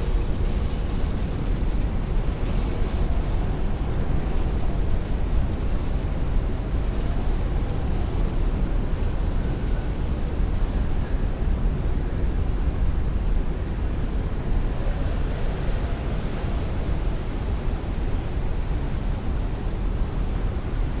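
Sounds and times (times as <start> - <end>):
heavy rain on a window: 0.0 - 21.0
strong wind: 0.0 - 21.0.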